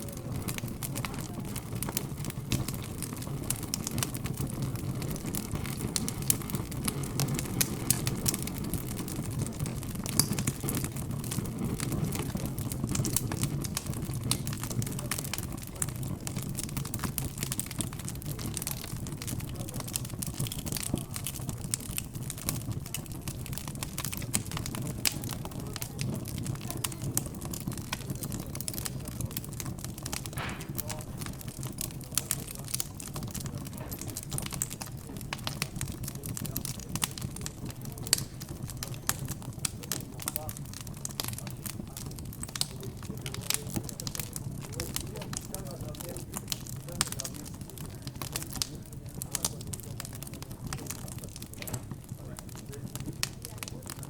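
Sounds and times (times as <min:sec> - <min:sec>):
background chatter: 0:00.0 - 0:54.0
fire crackling and popping: 0:00.0 - 0:54.0.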